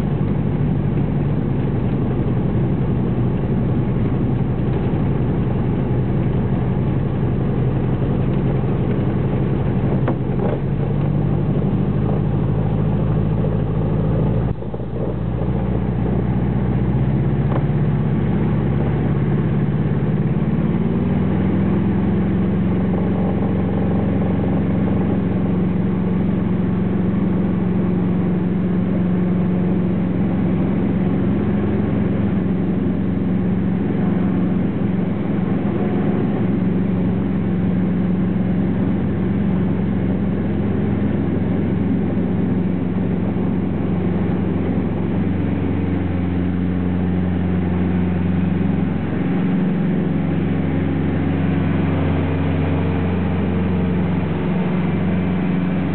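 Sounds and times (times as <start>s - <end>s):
light aircraft engine and propeller: 0.0s - 55.9s.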